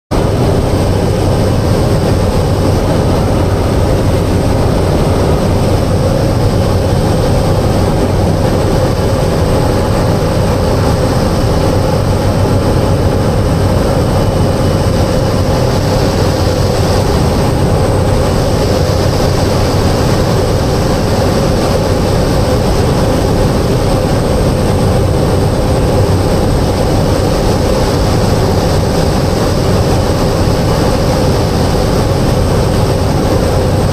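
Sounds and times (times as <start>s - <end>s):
turboprop engine droning: 0.1s - 33.9s.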